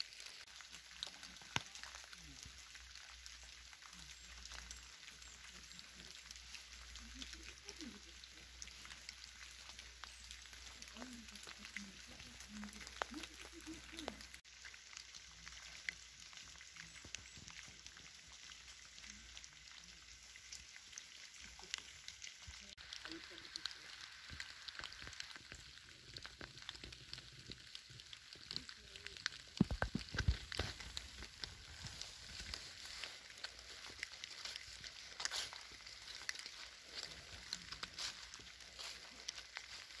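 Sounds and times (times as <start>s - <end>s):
rain pattering on wet leaves: 0.0s - 40.0s.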